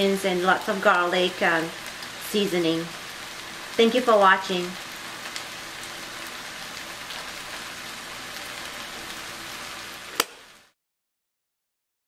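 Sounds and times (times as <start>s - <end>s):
okra sizzling in a pan: 0.0s - 10.8s.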